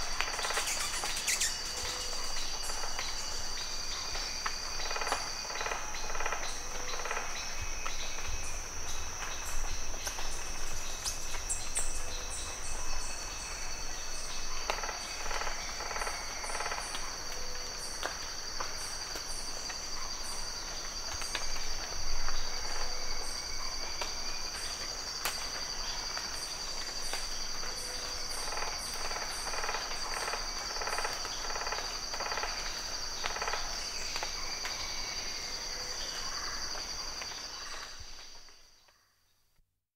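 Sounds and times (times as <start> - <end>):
cicadas droning: 0.0 - 39.2.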